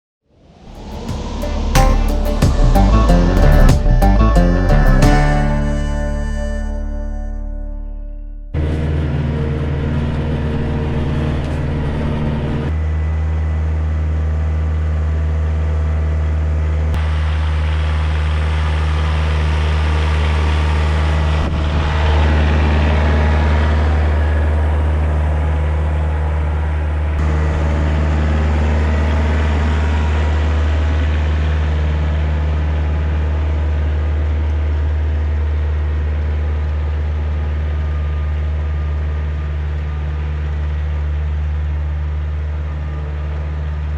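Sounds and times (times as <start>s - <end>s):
diesel tractor engine running: 0.7s - 43.9s.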